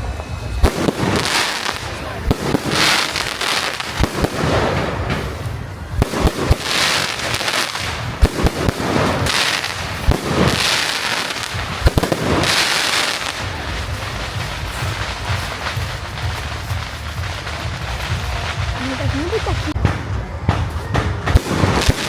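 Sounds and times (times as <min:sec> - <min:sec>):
crackling firework effects: 0:00.0 - 0:22.0
firework shells bursting: 0:00.6 - 0:22.0.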